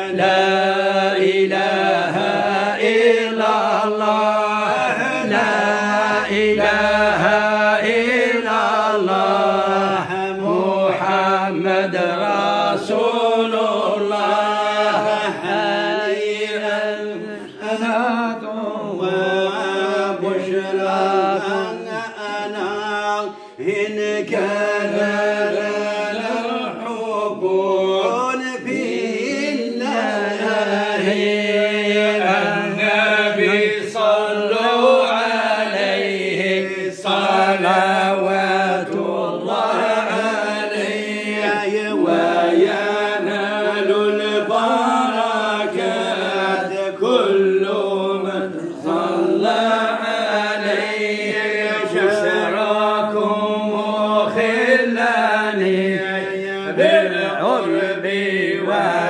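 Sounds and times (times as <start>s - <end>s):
men chanting: 0.0s - 59.0s.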